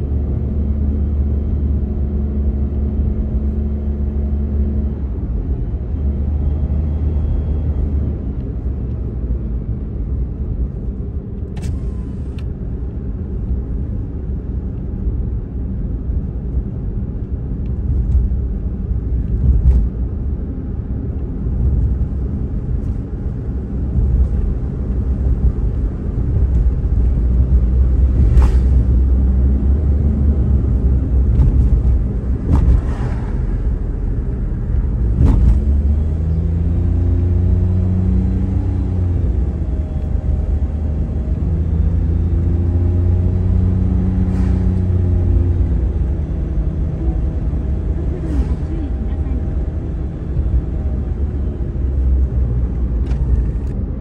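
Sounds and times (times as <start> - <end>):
car interior engine and tyre rumble: 0.0 - 54.0.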